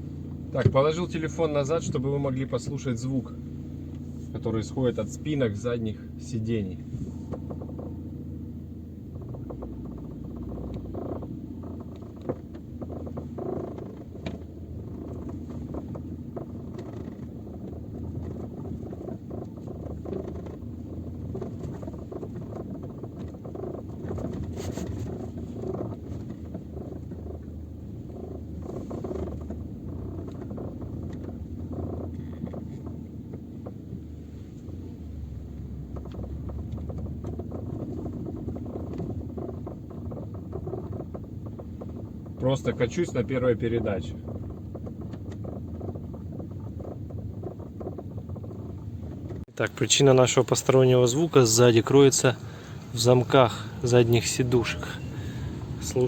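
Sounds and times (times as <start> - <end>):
low road rumble: 0.0 - 56.0
seatback knocks and rattles: 0.0 - 56.0.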